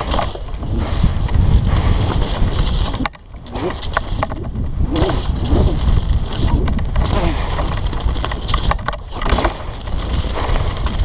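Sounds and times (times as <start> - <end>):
bike rattles and knocks: 0.0 - 11.0
bike tyres rolling on gravel: 0.0 - 11.0
wind over microphone: 0.0 - 11.0.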